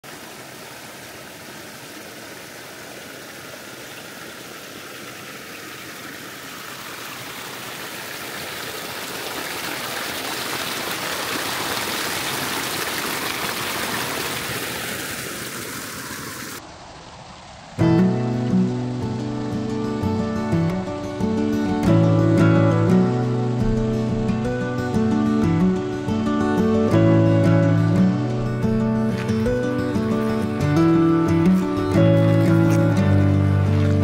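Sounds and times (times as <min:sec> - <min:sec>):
stream running: 0:00.0 - 0:34.0.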